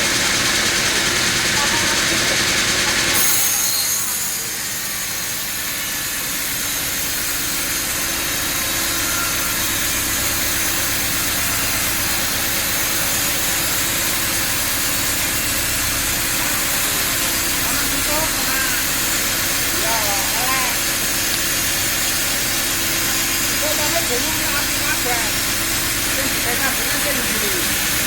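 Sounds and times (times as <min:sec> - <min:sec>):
saw cutting hiss: 0:00.0 - 0:28.0
saw motor hum: 0:00.0 - 0:28.0.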